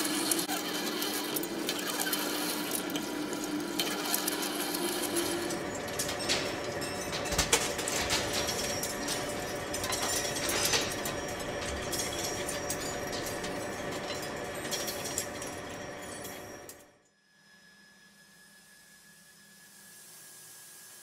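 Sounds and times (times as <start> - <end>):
metal lathe running: 0.0 - 16.8.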